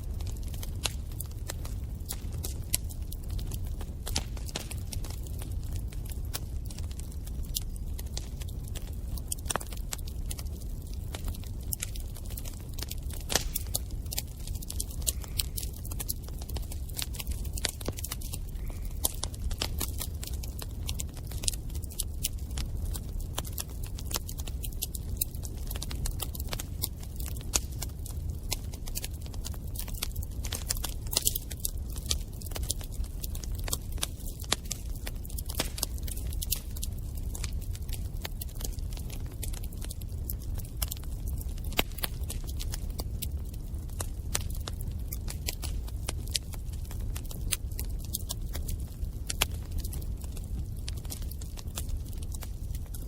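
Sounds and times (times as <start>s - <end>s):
burning wood crackling and popping: 0.0s - 53.0s
low rumble of flames: 0.0s - 53.0s.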